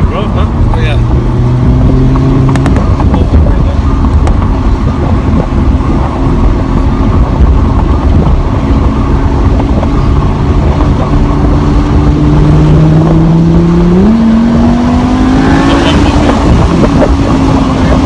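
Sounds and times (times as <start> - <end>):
car engine driving: 0.0 - 18.0
heavy low rumble: 0.0 - 18.0.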